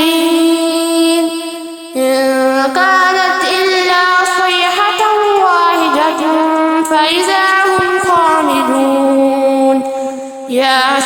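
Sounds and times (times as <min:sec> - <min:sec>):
person reciting melodically: 0:00.0 - 0:11.0.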